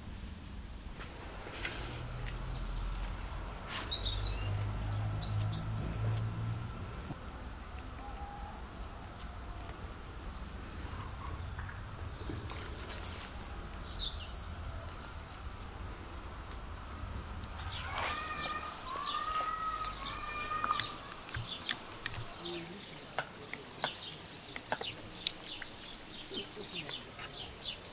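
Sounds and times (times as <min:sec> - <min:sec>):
low steady hum: 0:00.0 - 0:23.8
birds chirping: 0:00.8 - 0:27.9.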